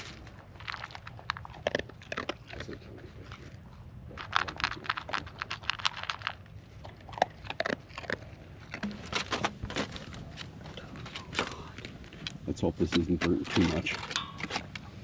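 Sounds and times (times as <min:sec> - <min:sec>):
dog crunching food: 0:00.0 - 0:15.0.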